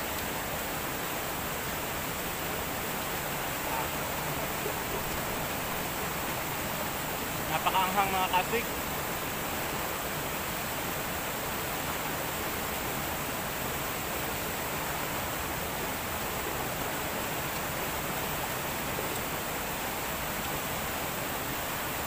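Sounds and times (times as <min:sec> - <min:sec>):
river water rushing over rocks: 0:00.0 - 0:22.0.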